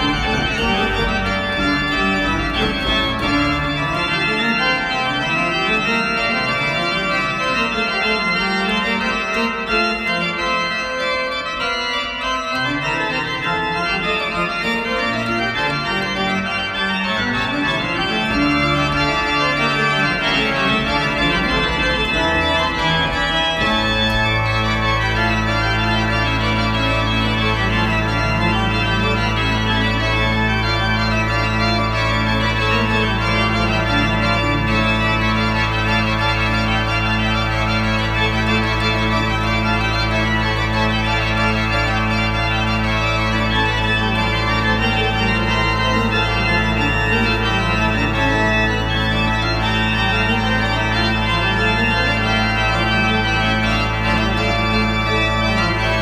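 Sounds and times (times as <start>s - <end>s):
organ playing held chords: 0.0s - 56.0s.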